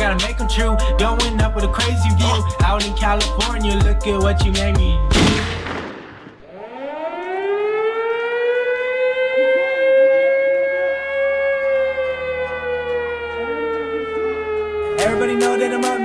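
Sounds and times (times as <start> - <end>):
air raid siren wail: 0.0 - 4.9, 6.4 - 16.0.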